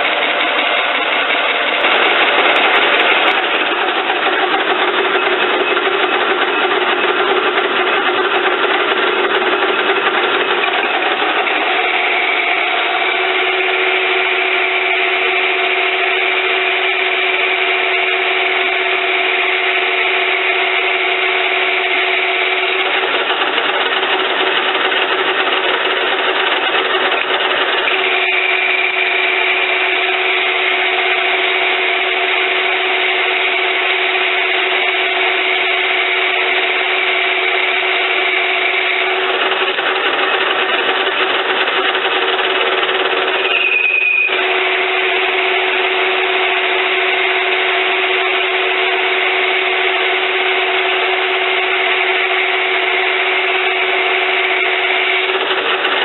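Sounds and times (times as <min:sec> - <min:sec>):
high machine whine: 0:00.0 - 0:56.0
lathe running: 0:00.0 - 0:56.0.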